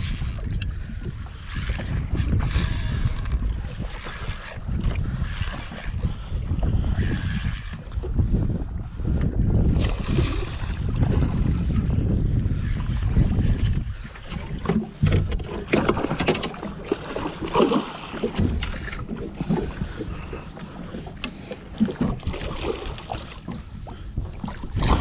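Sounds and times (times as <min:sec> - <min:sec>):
water noise: 0:00.0 - 0:25.0
wind: 0:00.0 - 0:25.0.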